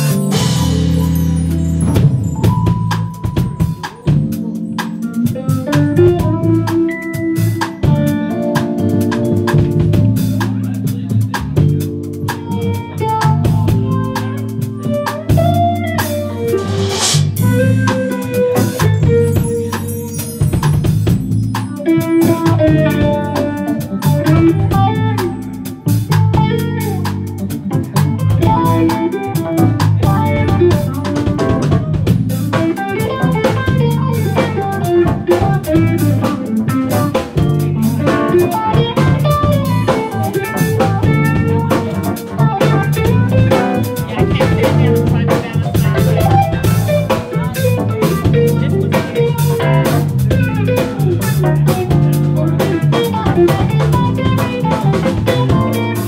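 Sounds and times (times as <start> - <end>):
drum kit: 0.0 - 56.0
electric bass: 0.0 - 56.0
electric guitar: 0.0 - 56.0
keyboards: 0.0 - 56.0.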